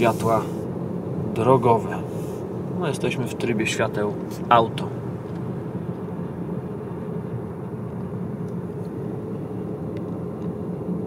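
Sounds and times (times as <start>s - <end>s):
car engine and tyre hum: 0.0s - 11.0s.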